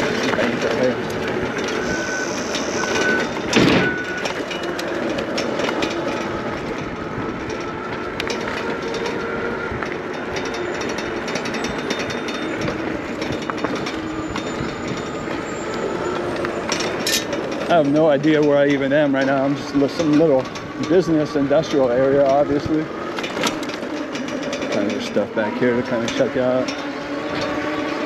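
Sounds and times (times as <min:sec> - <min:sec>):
wind and tyre noise: 0:00.0 - 0:28.0.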